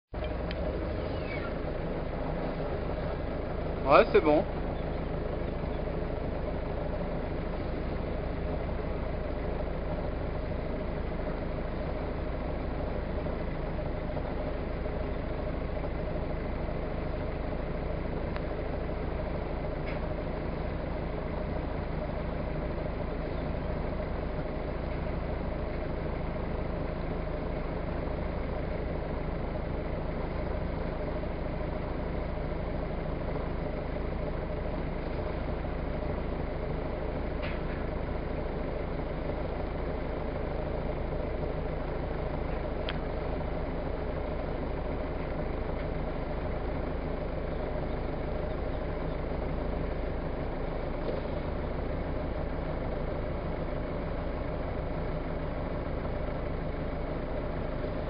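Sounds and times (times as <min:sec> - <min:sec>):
motorboat engine running: 0:00.2 - 0:58.0.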